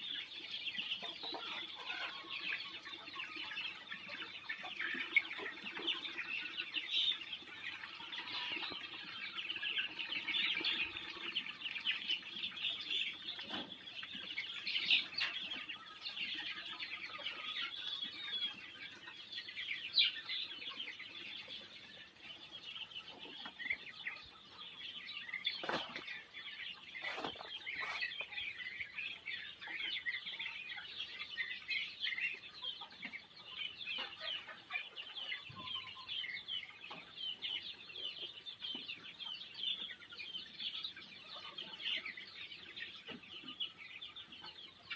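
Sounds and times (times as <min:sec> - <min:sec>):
ducklings peeping: 0:00.0 - 0:44.9.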